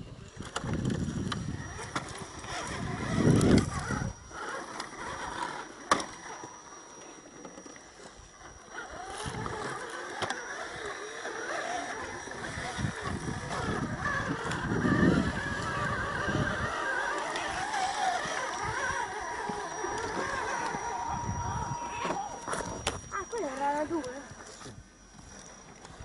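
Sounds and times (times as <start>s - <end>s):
toy car motor whining: 0.2s - 26.0s.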